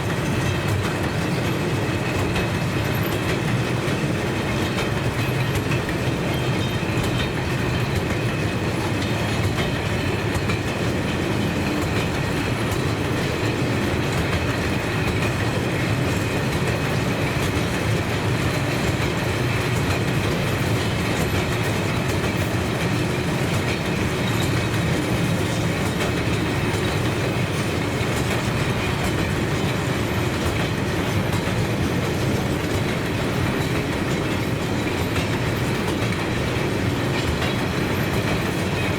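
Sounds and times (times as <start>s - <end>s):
train rolling on rails: 0.0s - 38.9s.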